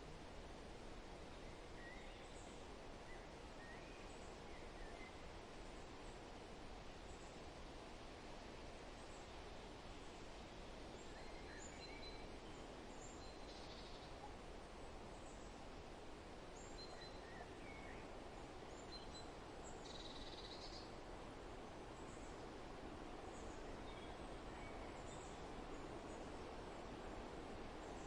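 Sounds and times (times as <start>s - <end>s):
wind rustling through forest: 0.0s - 28.0s.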